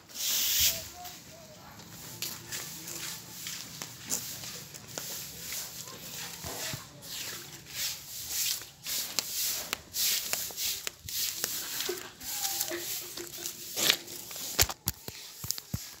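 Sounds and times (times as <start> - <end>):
broom swishing over concrete: 0.0 - 16.0.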